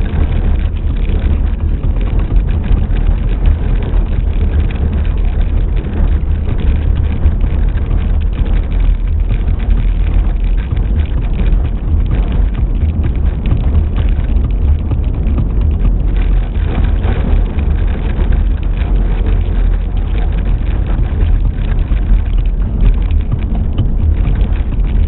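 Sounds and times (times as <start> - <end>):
small stones crackling: 0.0 - 25.0
tyres rumbling on gravel: 0.0 - 25.0.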